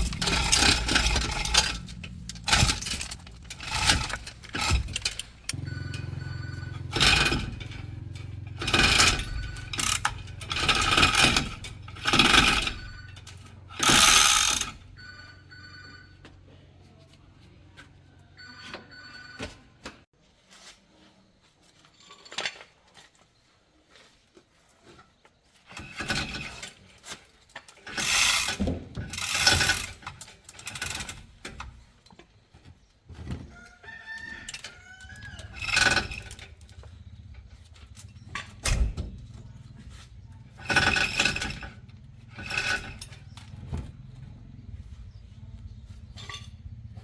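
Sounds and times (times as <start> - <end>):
metal tools clanking and scraping: 0.0 - 15.0, 21.7 - 23.2, 24.8 - 47.0.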